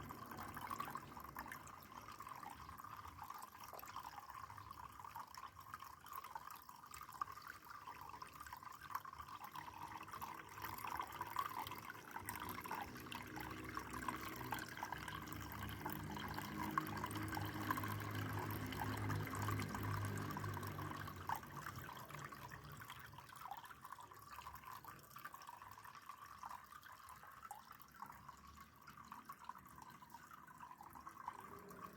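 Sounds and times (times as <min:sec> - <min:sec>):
low steady hum: 0:00.0 - 0:25.6
water trickling and dripping: 0:00.0 - 0:31.9.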